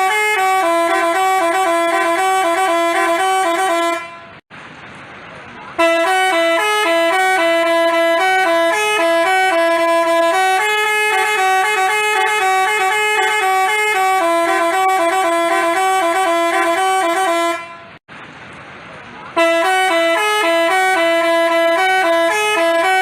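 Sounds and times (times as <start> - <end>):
bus horn playing a tune: 0.0 - 4.4, 5.8 - 18.0, 19.4 - 23.0.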